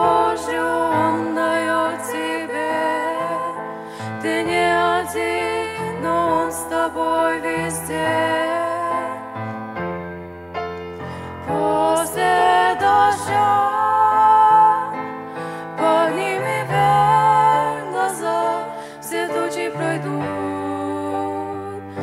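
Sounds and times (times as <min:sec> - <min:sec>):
girls singing a duet: 0:00.0 - 0:09.3, 0:11.4 - 0:22.0
grand piano: 0:00.0 - 0:22.0.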